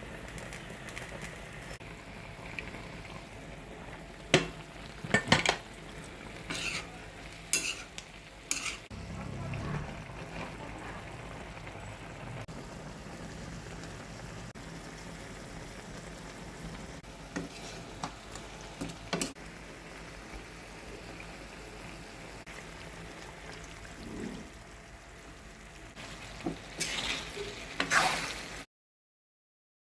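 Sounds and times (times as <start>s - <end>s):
chicken sizzling in hot oil: 0.0s - 28.7s.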